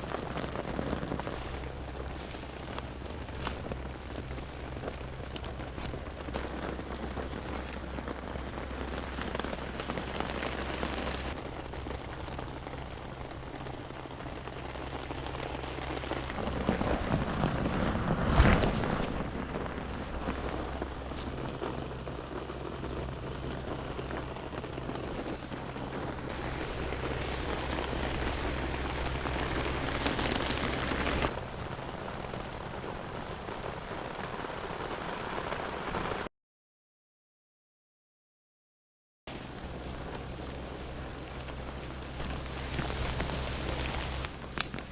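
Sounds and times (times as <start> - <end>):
rustling noise: 0.0 - 33.0, 39.3 - 44.9
rain falling: 0.0 - 36.3, 39.3 - 44.9.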